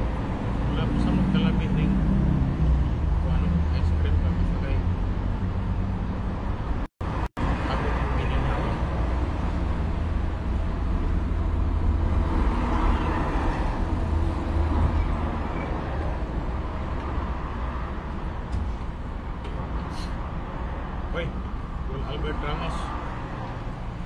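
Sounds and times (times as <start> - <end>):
road traffic rumble: 0.0 - 24.0
vehicle passing: 0.0 - 24.0.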